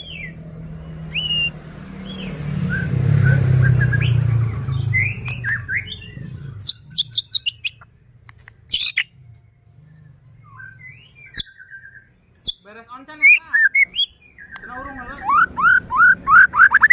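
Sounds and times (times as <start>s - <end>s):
bird whistling song: 0.0s - 16.9s.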